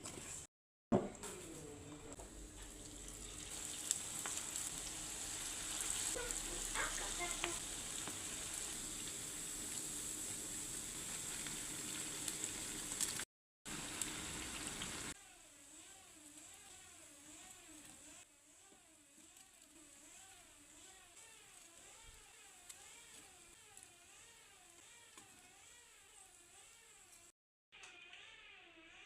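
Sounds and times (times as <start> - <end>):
food frying in hot oil: 2.4 - 26.9.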